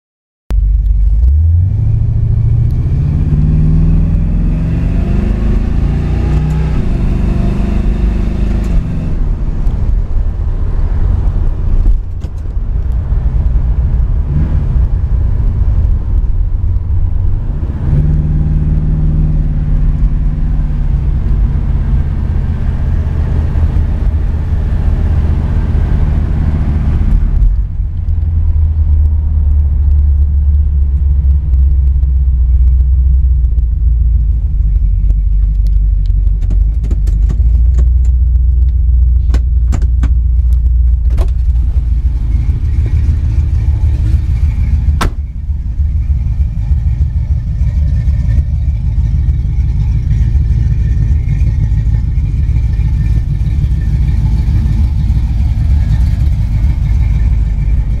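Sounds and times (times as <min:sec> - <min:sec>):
car engine heard from cabin: 0:00.5 - 0:58.0.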